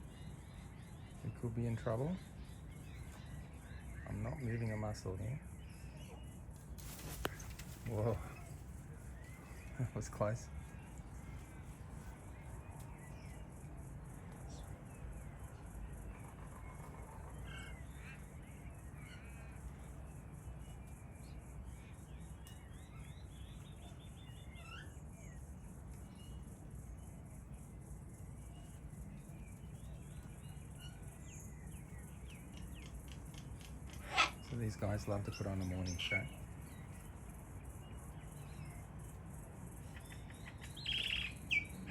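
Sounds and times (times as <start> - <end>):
faint bird chirps: 0.0 - 41.9.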